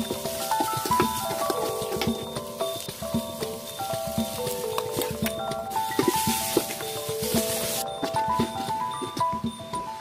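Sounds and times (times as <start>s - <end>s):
melody of held notes: 0.0s - 10.0s.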